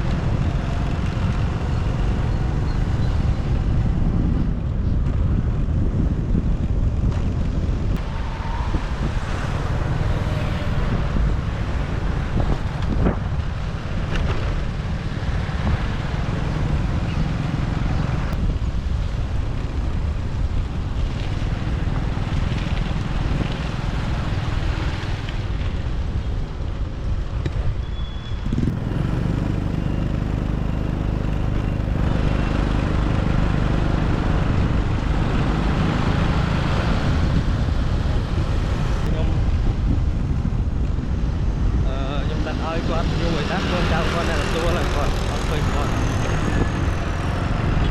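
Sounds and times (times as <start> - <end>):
wind buffeting microphone: 0.0 - 43.6
city traffic: 0.0 - 47.9
motorbike engine and road noise: 0.0 - 47.9.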